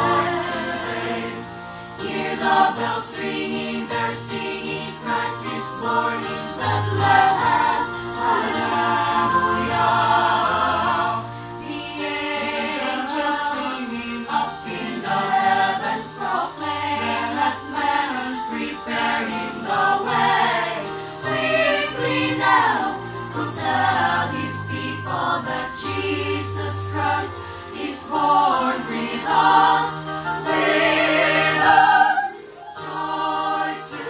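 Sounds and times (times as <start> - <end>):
children's choir singing: 0.0 - 34.0
electronic keyboard: 0.0 - 34.0.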